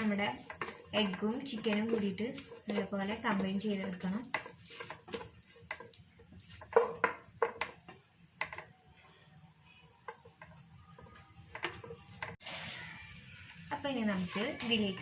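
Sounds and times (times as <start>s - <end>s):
spatula scraping cooking pan: 0.0s - 15.0s.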